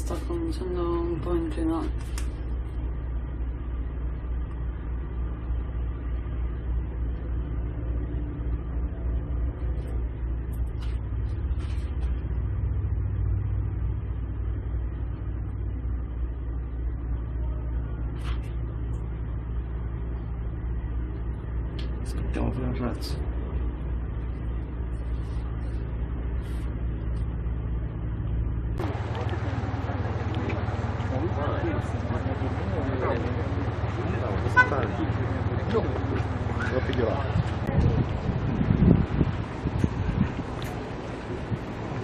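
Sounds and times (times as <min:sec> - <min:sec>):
motor rumbling: 0:00.0 - 0:42.0.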